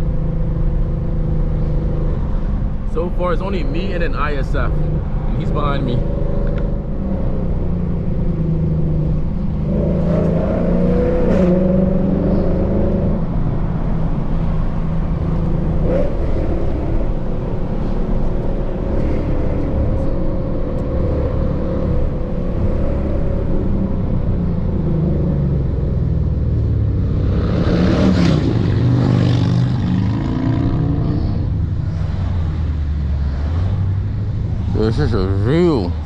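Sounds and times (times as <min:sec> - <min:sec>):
car engine at part throttle: 0:00.0 - 0:36.0.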